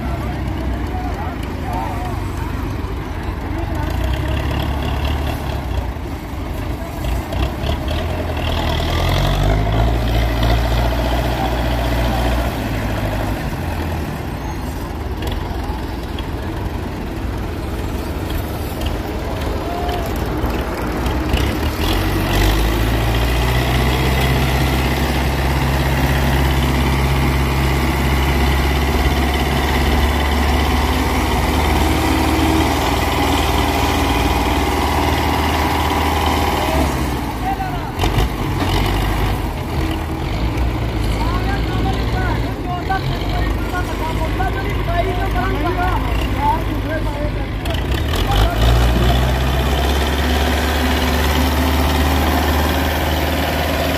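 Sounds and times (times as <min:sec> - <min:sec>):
tractor diesel engine revving: 0:00.0 - 0:53.9.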